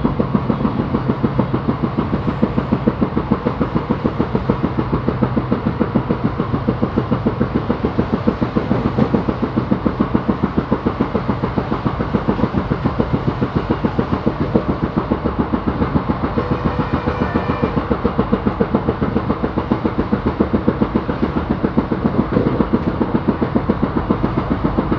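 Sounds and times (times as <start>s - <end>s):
train wheels clattering over rail joints: 0.0s - 24.9s.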